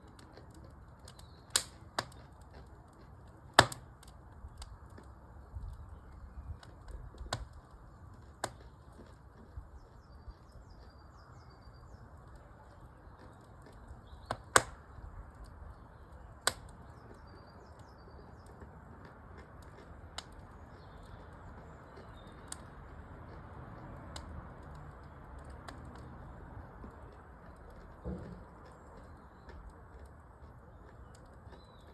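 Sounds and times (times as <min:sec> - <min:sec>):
birds chirping faintly: 0:00.0 - 0:31.9
fire popping: 0:00.0 - 0:31.9
wood fire crackling: 0:00.0 - 0:31.9.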